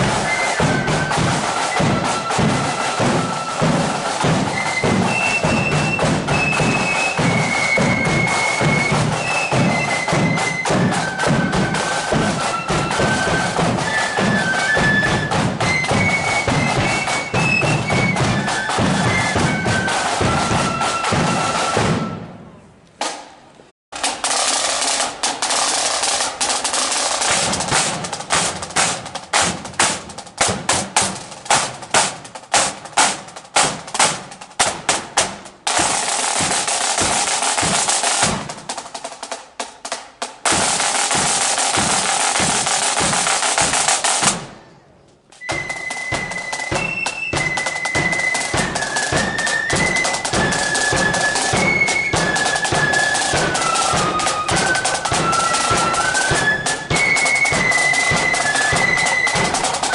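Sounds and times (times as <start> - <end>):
flute band melody: 0.0 - 23.2, 24.0 - 44.7, 45.3 - 59.9
snare and bass drums: 0.0 - 44.6, 45.3 - 59.9.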